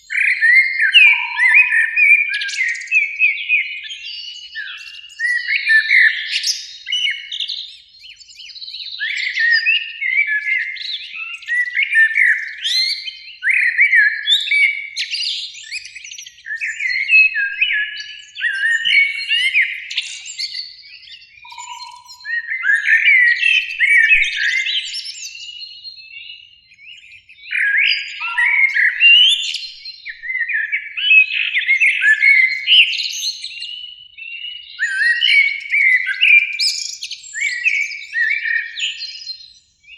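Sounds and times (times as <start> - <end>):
blackbirds singing: 0.0 - 39.9.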